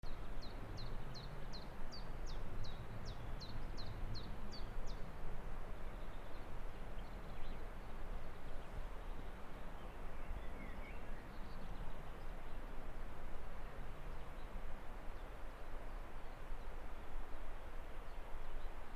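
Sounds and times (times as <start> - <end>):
outdoor background hiss: 0.0 - 18.9.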